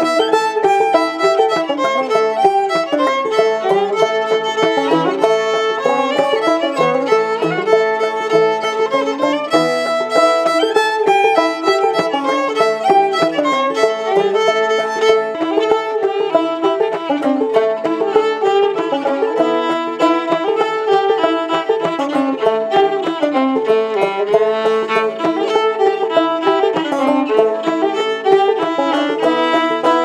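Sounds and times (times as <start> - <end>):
banjo playing: 0.0 - 30.0
fiddle playing: 0.0 - 30.0.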